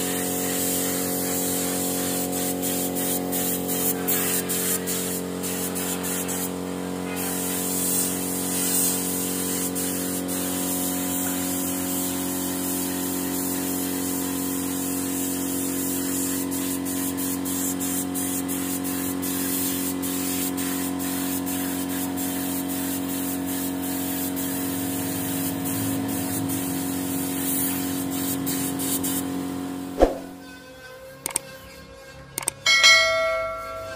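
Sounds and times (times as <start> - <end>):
paint spray gun hissing: 0.0 - 30.4.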